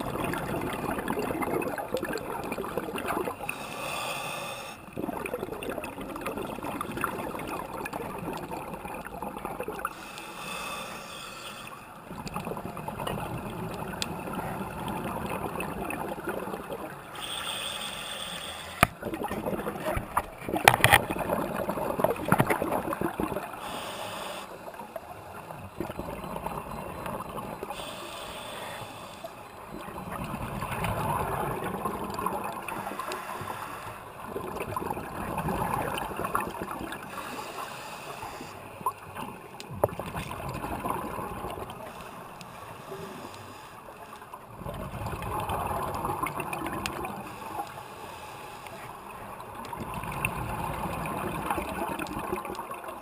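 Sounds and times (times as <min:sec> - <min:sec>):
underwater bubbles gurgling: 0:00.0 - 0:53.0.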